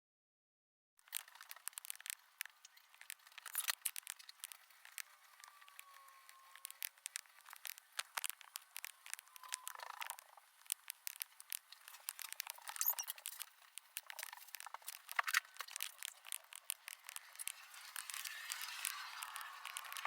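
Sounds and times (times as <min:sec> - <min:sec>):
small clicks and taps: 0:01.0 - 0:20.0.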